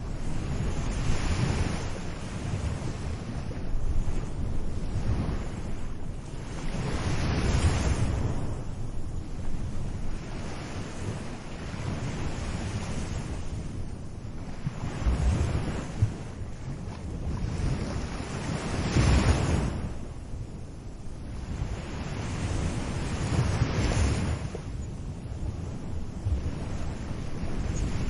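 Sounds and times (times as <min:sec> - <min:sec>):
ocean waves breaking: 0:00.0 - 0:20.3, 0:21.2 - 0:28.0
wind on microphone: 0:00.0 - 0:28.0.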